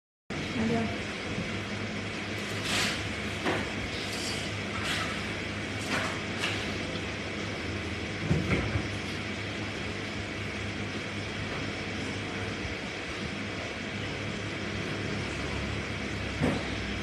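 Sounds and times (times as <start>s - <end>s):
machine hum and hiss: 0.3s - 17.0s.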